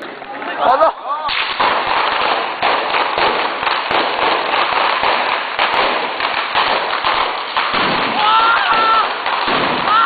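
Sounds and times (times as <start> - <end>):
firecrackers going off: 0.0 - 10.0.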